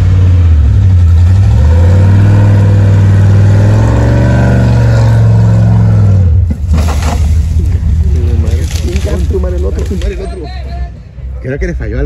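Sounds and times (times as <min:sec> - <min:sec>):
off-road vehicle engine revving: 0:00.0 - 0:10.4.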